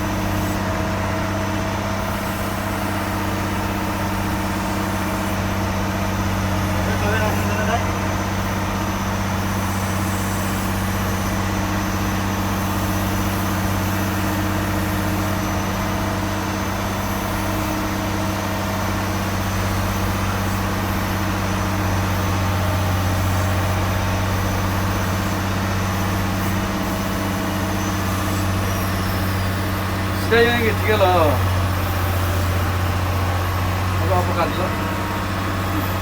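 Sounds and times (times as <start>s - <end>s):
heavy engines humming: 0.0s - 36.0s.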